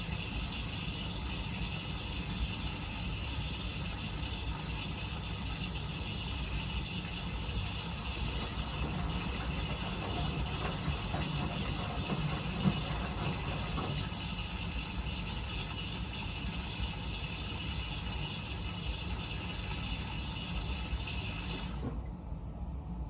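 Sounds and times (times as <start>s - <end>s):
hissing water in washing machine: 0.0s - 22.2s
washing machine humming: 0.0s - 23.0s.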